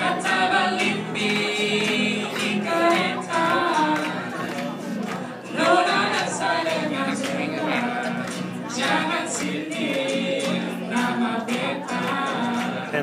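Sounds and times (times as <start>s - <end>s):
choir singing: 0.0s - 4.5s, 5.5s - 13.0s.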